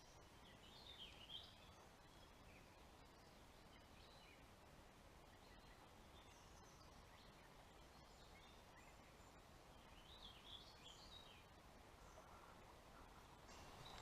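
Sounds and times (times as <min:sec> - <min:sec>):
faint bird chirps: 0:00.0 - 0:04.5, 0:05.2 - 0:14.0.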